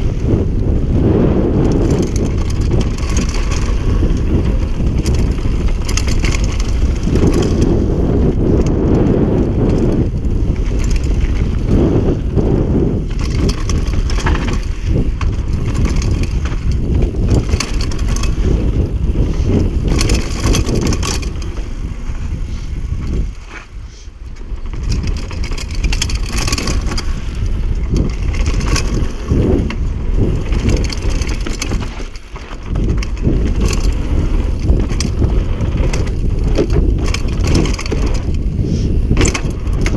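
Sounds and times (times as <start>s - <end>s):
bike rattling over bumps: 0.0s - 39.9s
bike tyres crunching over dirt: 0.0s - 39.9s
wind rumbling on microphone: 0.0s - 39.9s.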